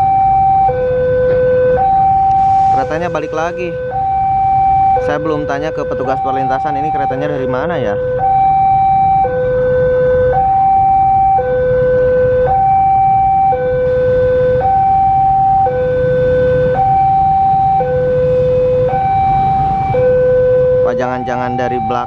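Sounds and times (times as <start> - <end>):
level-crossing two-tone alarm: 0.0 - 22.0.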